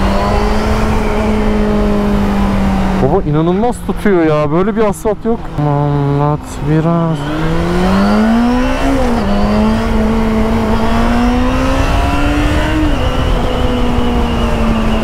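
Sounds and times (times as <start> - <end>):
low wind rumble: 0.0 - 15.0
motorcycle engine revving: 0.0 - 15.0.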